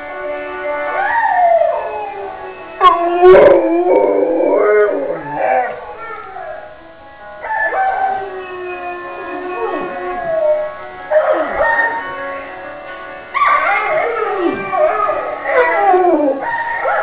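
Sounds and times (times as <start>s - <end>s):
dog howling: 0.9s - 6.7s, 7.4s - 12.1s, 13.3s - 17.0s.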